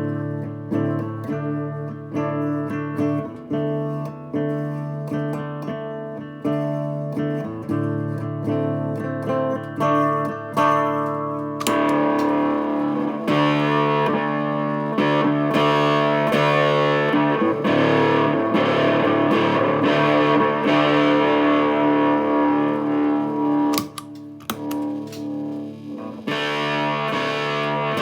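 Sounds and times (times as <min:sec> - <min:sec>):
fuzzed electric guitar chords: 0:00.0 - 0:28.0
picked guitar notes: 0:00.0 - 0:28.0.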